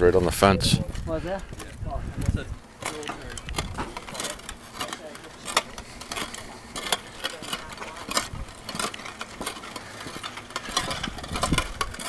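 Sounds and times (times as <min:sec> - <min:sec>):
footsteps on concrete pavers: 0:00.0 - 0:12.0.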